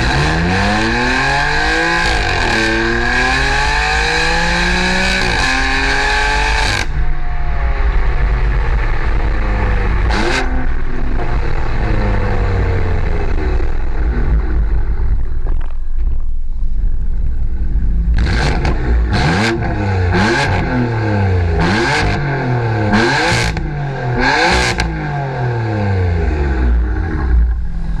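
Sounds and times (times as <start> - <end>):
car engine revving: 0.0 - 28.0
engine blips with sharp bursts: 0.0 - 28.0.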